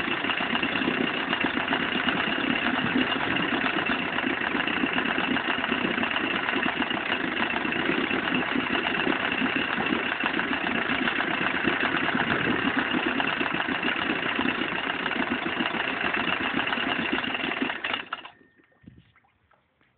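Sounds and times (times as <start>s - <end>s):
outboard motor idling: 0.0s - 19.9s.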